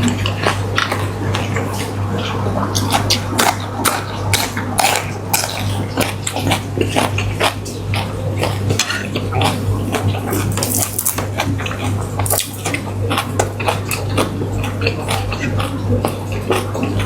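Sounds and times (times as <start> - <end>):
mouth smacks and chewing: 0.0 - 17.0
steady low hum: 0.0 - 17.0.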